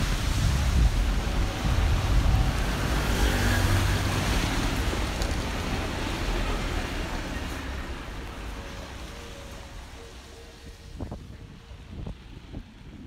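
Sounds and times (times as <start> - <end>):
engines rumbling: 0.0 - 13.0
tyres hissing on wet road: 0.0 - 13.0.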